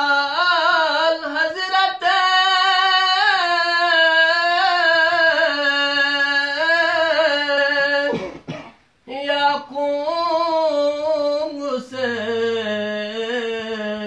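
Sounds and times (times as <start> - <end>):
man chanting unaccompanied: 0.0 - 8.2, 9.1 - 14.0.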